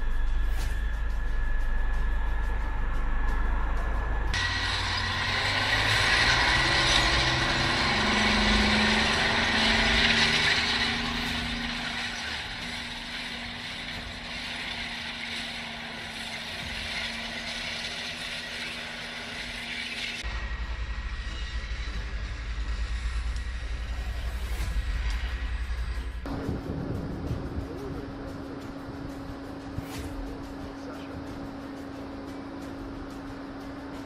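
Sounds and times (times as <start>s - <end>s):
tank engine and tracks running: 0.0s - 34.0s.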